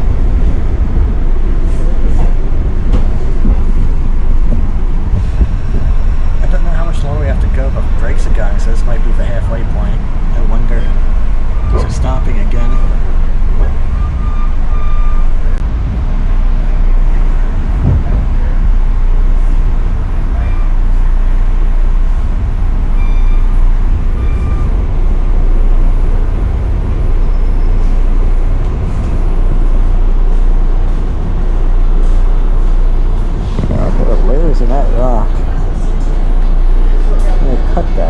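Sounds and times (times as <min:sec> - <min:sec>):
brakes squealing: 0:00.0 - 0:38.0
train wheels rumbling on rails: 0:00.0 - 0:38.0.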